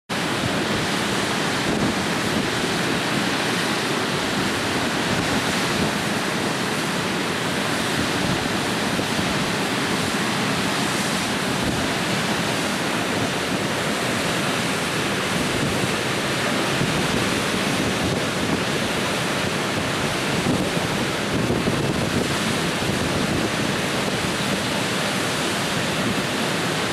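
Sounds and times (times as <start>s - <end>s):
water rushing over a weir: 0.1s - 26.9s.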